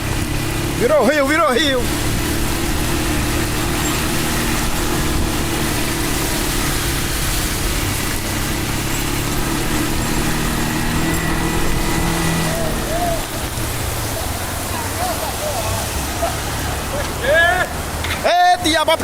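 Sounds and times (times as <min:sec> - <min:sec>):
floodwater rushing along street: 0:00.0 - 0:19.0
heavy rain pouring: 0:00.0 - 0:19.0.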